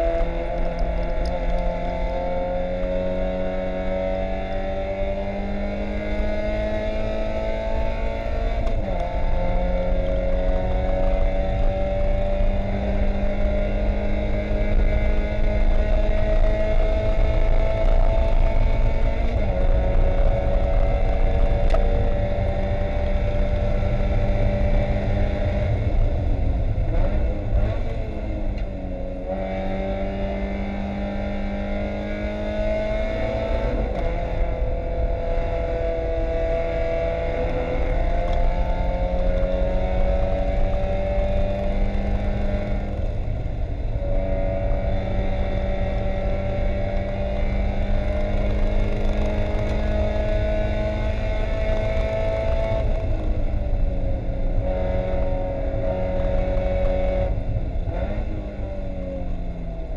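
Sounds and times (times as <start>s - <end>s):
car engine at high revs: 0.0s - 59.9s.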